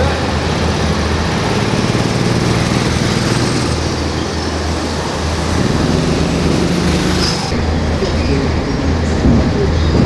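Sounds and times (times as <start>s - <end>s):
go-kart engines droning: 0.0s - 10.0s.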